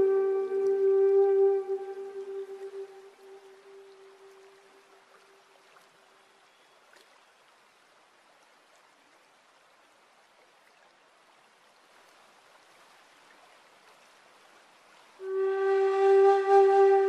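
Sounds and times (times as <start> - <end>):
running water hiss: 0.0 - 17.0.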